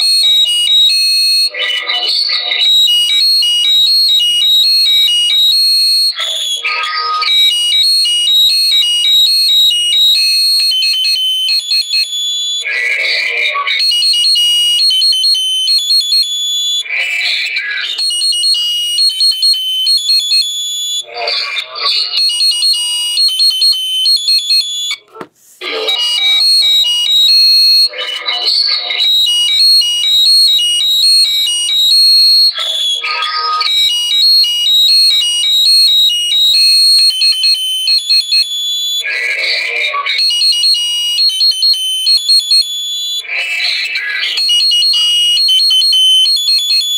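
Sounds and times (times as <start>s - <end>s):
christmas song from tiny speaker: 0.0s - 5.5s, 6.1s - 15.7s, 20.5s - 46.8s.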